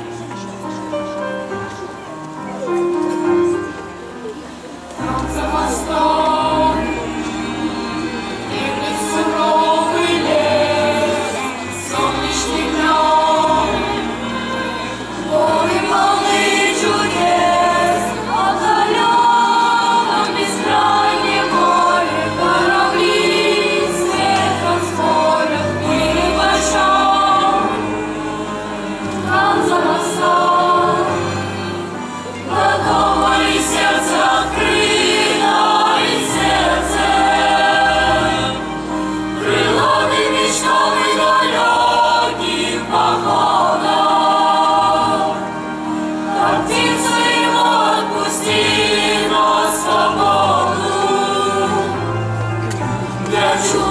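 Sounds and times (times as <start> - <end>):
boys choir singing: 5.0 - 53.9.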